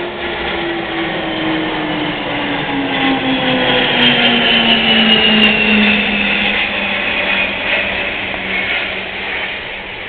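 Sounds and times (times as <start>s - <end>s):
jet aircraft flying overhead: 0.0s - 10.0s.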